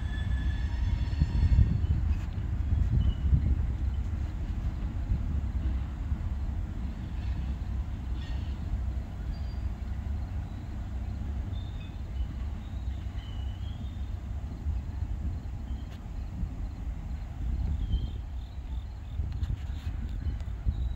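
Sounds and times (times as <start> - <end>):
train rumbling slowly: 0.0 - 20.9.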